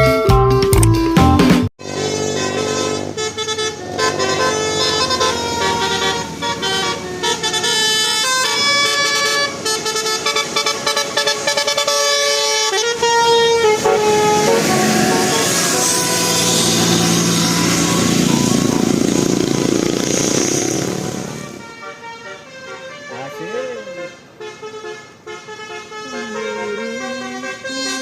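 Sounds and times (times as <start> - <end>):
bus horn playing a tune: 1.8 - 28.0.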